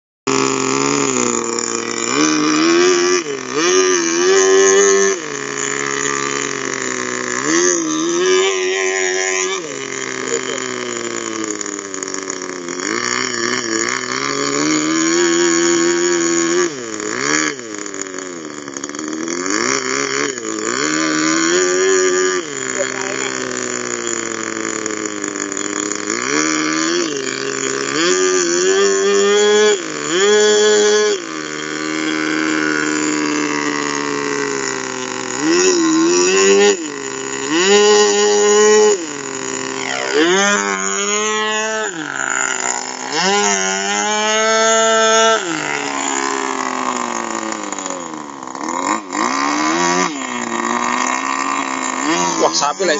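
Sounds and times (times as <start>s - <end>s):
model airplane engine running: 0.3s - 52.9s.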